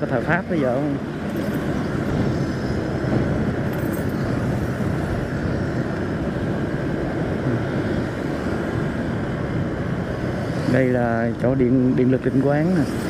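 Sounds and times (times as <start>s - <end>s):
road vehicle running noise: 0.0s - 13.0s.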